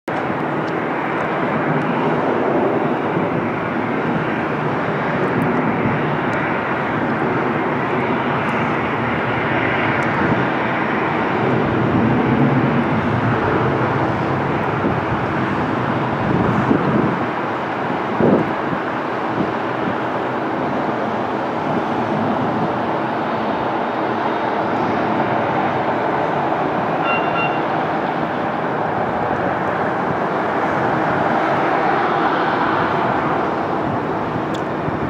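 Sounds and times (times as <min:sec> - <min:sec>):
jet engines running: 0:00.1 - 0:35.0.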